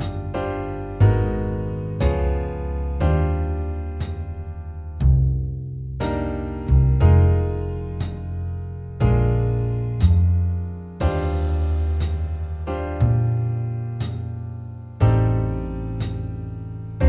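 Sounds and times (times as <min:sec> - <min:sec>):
piano chords ringing: 0:00.0 - 0:05.0, 0:06.0 - 0:17.0
low bass notes: 0:00.0 - 0:17.0.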